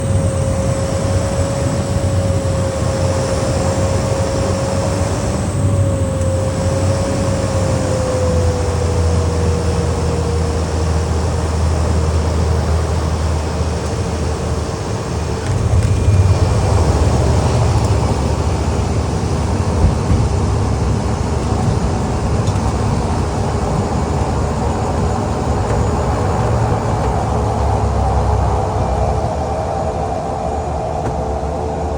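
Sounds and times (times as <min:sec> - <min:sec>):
propeller drone with whine: 0:00.0 - 0:31.9.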